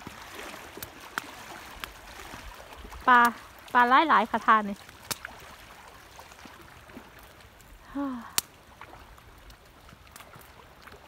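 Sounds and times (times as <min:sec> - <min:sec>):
faint water sounds: 0:00.0 - 0:11.0.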